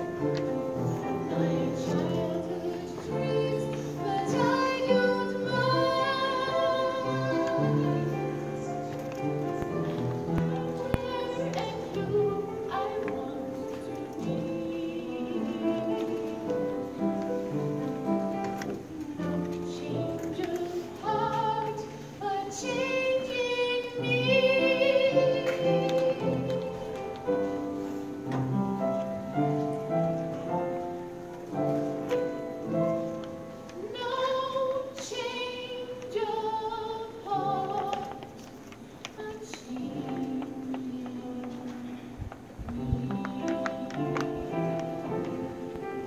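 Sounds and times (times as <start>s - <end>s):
musical accompaniment: 0.0s - 38.5s
woman singing a ballad: 1.0s - 17.5s, 18.6s - 27.8s, 33.7s - 45.6s.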